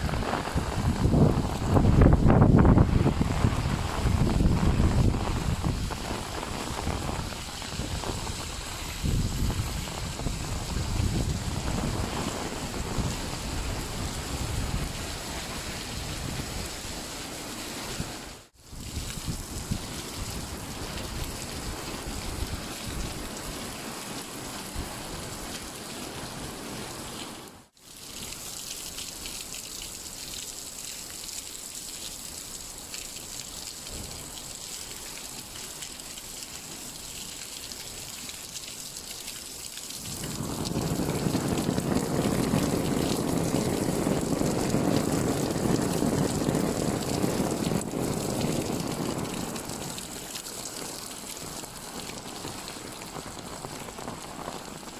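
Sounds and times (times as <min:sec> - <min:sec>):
rain pattering on an umbrella: 0:00.0 - 0:54.9.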